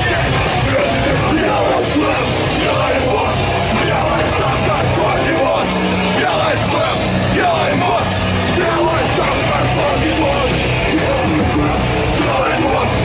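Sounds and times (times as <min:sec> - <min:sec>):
punk rock band playing: 0:00.0 - 0:13.0
shouted vocals: 0:00.0 - 0:13.0.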